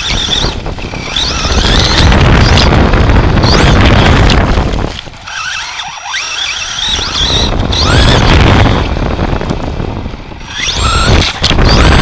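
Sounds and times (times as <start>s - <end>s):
electric motor and gears whine: 0.0s - 12.0s
wind and ground rumble: 0.0s - 12.0s.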